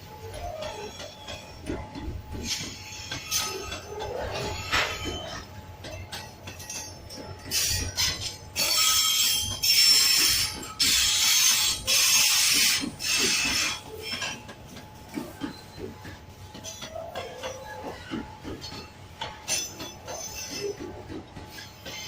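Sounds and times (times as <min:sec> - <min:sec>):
high-pitched train screeching: 0:00.0 - 0:05.6, 0:06.6 - 0:22.0
train low rumble: 0:00.0 - 0:22.0.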